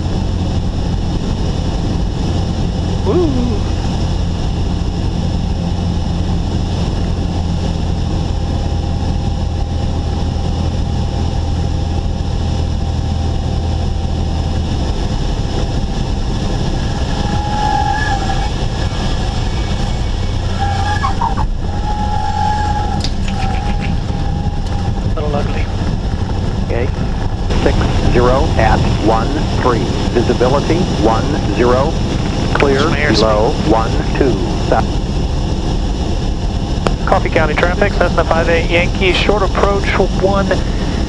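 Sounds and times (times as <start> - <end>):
light aircraft engine and propeller: 0.0 - 17.4, 18.1 - 21.9, 22.6 - 41.0.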